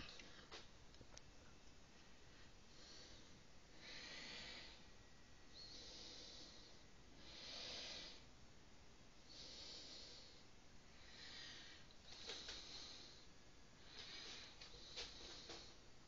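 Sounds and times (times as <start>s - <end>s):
faint background hiss: 0.0s - 16.0s
person breathing: 2.1s - 8.3s, 9.2s - 15.9s.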